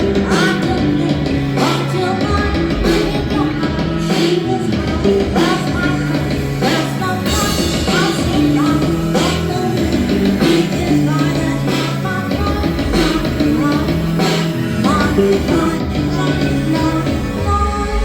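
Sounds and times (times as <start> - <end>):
drum strikes: 0.0 - 16.3
person singing: 0.0 - 18.0
rock band playing: 0.0 - 18.0.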